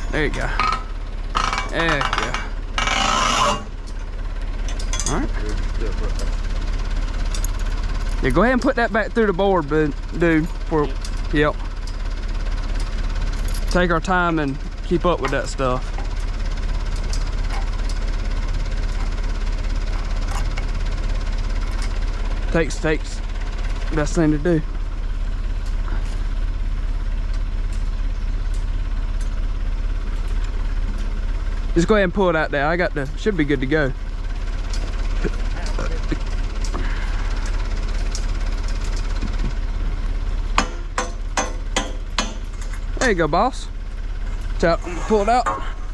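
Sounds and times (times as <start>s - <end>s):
backhoe engine idling: 0.0s - 45.9s.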